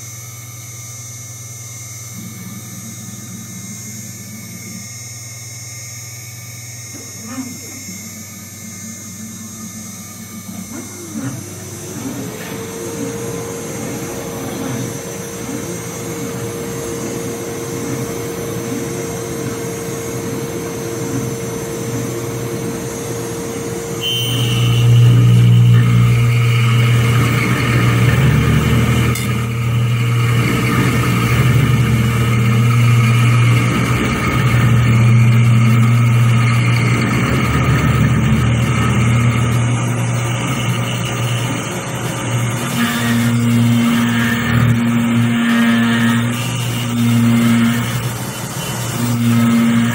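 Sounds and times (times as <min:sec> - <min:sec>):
motor humming and whining: 0:00.0 - 0:49.9
milling spindle whining: 0:00.7 - 0:49.9
end mill cutting aluminium: 0:01.7 - 0:49.9.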